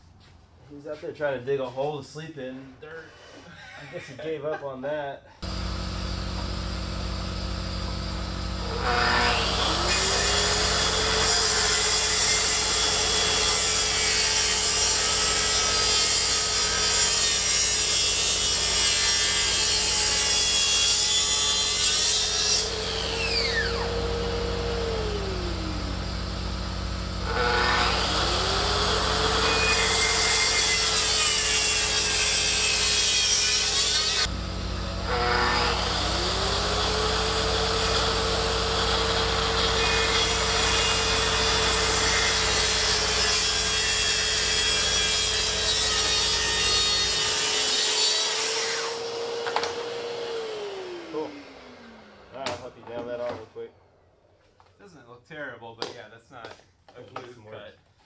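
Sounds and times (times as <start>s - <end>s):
track saw cutting wood: 5.4s - 53.4s.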